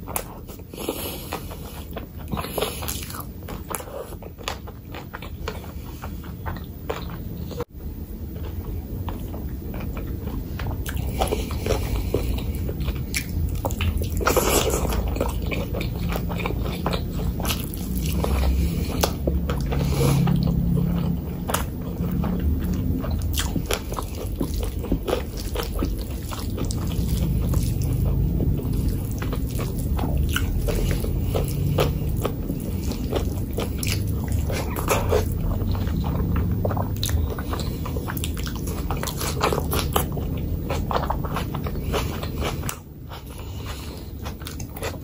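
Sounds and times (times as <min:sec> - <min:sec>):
wet chewing sounds: 0:00.0 - 0:45.0.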